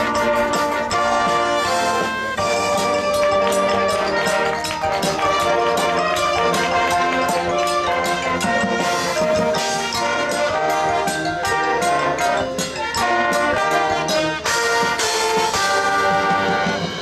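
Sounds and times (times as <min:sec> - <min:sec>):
brass section playing: 0:00.0 - 0:17.0
marching drums: 0:00.0 - 0:17.0.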